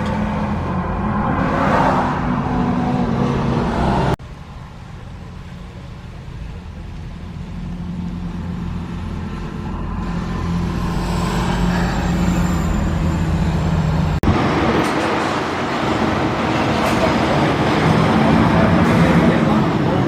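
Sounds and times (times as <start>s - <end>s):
heavy truck engine humming: 0.0s - 20.0s
road and traffic noise: 0.0s - 20.0s.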